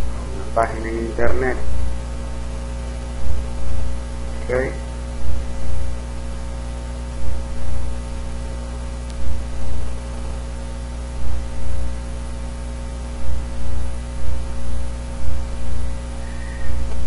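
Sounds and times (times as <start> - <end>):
electrical hum and hiss: 0.0 - 17.0
low throb: 0.0 - 17.0.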